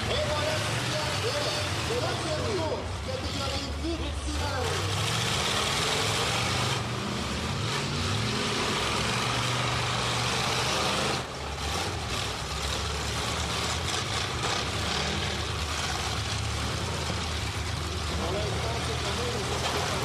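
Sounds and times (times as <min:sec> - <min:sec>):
car engines revving together: 0:00.0 - 0:20.0.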